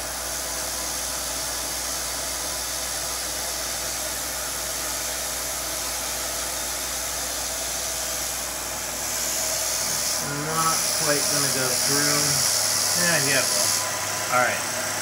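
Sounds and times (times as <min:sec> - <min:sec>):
milling machine whirring: 0:00.0 - 0:15.0.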